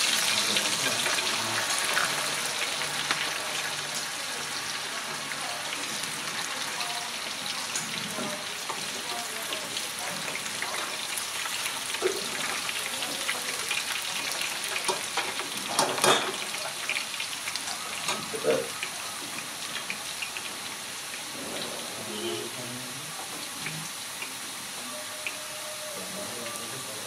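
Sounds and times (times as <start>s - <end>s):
fries sizzling in hot oil: 0.0s - 27.0s.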